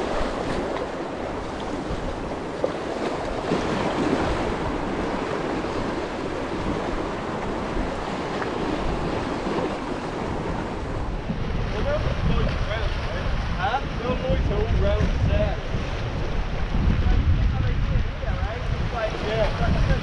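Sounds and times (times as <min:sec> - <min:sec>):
sea waves washing over rocks: 0:00.0 - 0:20.0
wind rumbling on microphone: 0:00.0 - 0:20.0.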